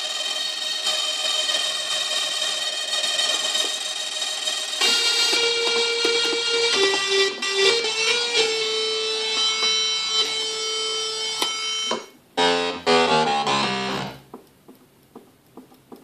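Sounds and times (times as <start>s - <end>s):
distorted buzzy organ notes: 0.0s - 14.3s.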